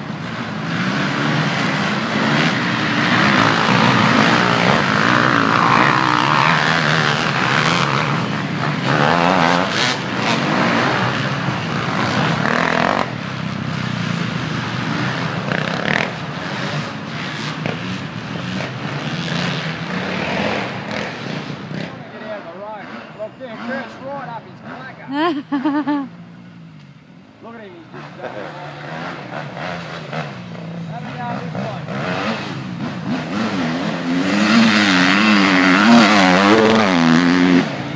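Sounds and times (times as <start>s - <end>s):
dirt bike engine revving: 0.0s - 21.9s, 28.0s - 37.9s.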